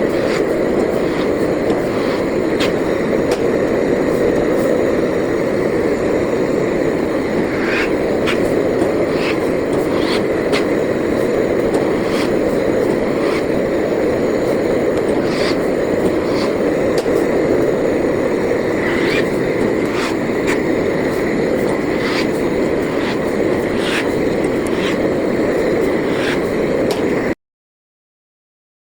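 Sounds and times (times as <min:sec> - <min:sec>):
flatbread machine running: 0:00.0 - 0:27.4.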